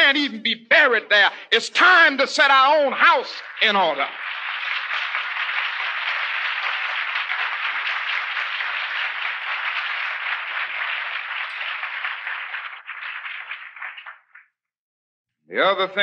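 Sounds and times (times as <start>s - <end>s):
audience applauding: 1.2s - 14.5s.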